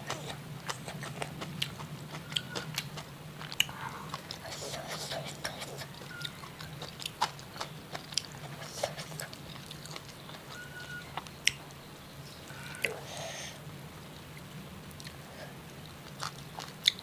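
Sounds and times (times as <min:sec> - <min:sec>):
person chewing crunchy food: 0:00.0 - 0:11.8, 0:14.9 - 0:17.0.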